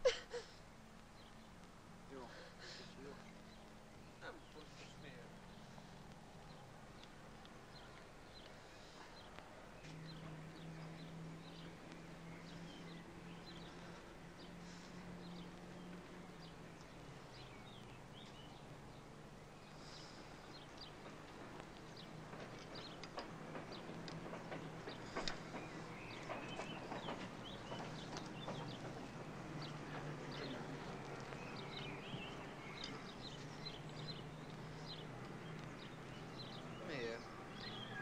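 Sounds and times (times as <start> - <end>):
birds chirping: 0.0 - 38.0
faint outdoor noise: 0.0 - 38.0.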